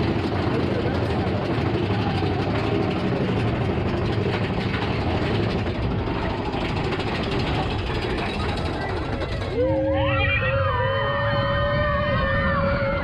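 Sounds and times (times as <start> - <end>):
roller coaster cars rumbling and rattling: 0.0 - 13.0.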